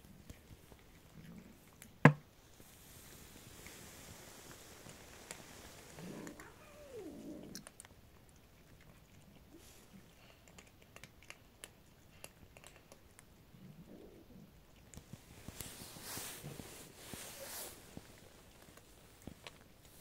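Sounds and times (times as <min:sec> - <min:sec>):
cats crunching dry kibble: 0:00.0 - 0:20.0.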